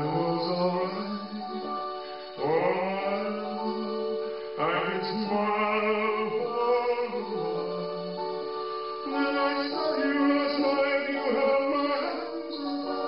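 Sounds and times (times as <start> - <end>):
man singing long notes: 0.0 - 8.4, 9.0 - 13.0
electronic keyboard: 0.0 - 13.0.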